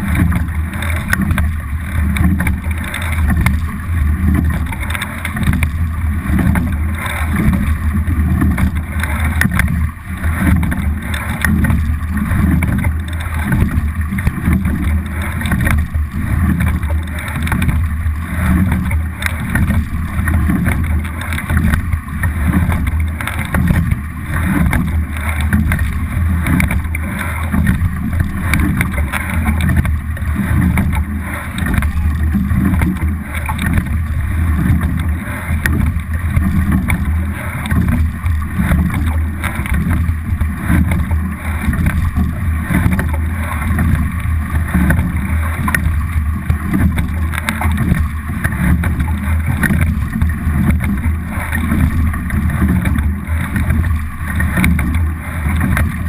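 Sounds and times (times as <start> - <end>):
knocks on boat: 0.0 - 56.0
water rushing along hull: 0.0 - 56.0.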